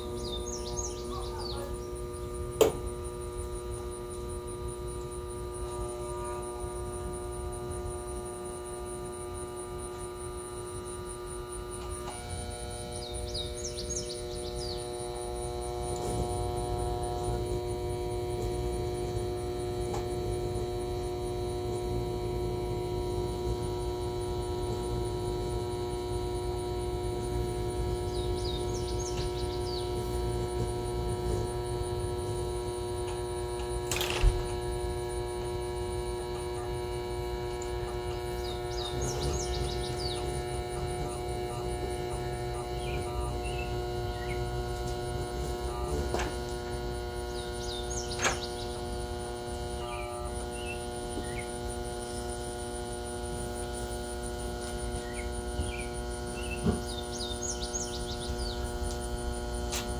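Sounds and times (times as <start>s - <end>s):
blender motor whining: 1.8s - 59.9s.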